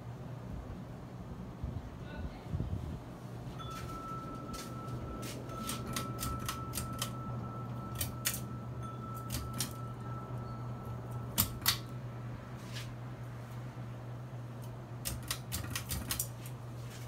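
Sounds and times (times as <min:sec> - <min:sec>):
ceiling fan motor hum: 0:00.0 - 0:17.0.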